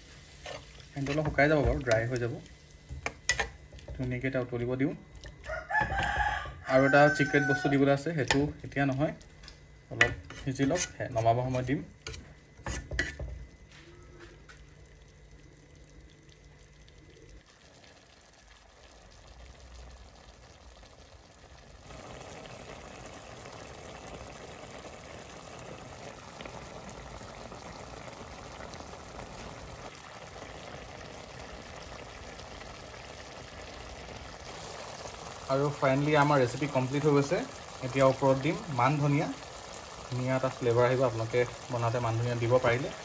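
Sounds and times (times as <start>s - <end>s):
curry bubbling and sizzling: 0.0s - 43.0s.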